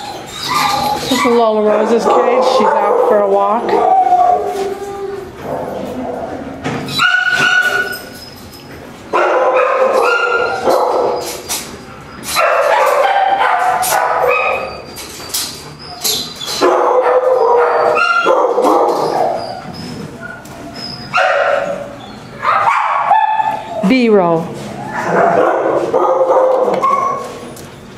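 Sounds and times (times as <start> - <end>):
dogs barking and yipping: 0.0 - 24.0, 24.7 - 27.9.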